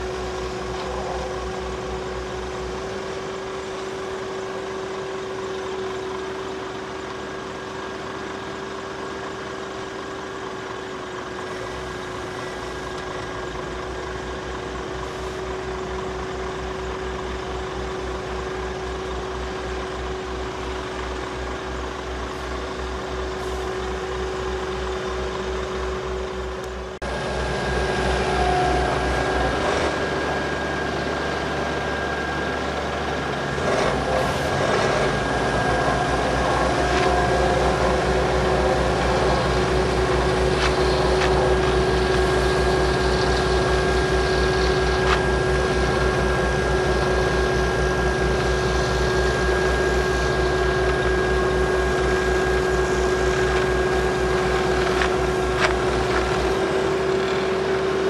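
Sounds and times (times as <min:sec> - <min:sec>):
diesel truck engine running: 0:00.0 - 0:58.0
machinery running: 0:00.0 - 0:58.0.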